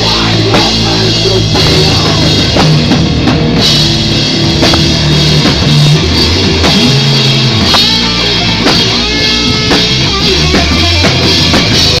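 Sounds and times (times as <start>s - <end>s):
drum kit hits: 0.0s - 12.0s
rock band playing live: 0.0s - 12.0s.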